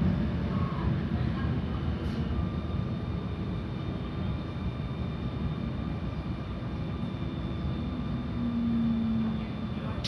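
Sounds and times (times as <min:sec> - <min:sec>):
railcar low rumble: 0:00.0 - 0:10.0.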